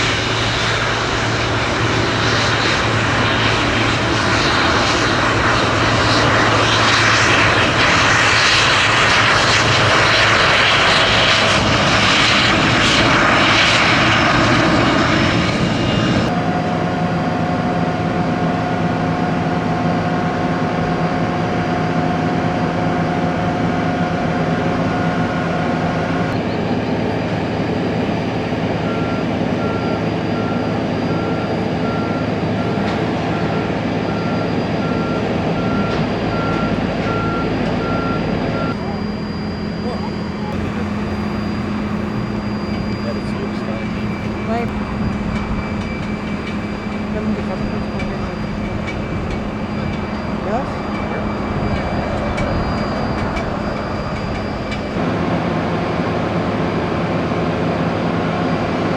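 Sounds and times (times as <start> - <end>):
vehicle reversing beeps: 0.0 - 55.2
jet engine whine: 0.0 - 58.9
jet engines roaring: 0.0 - 58.9.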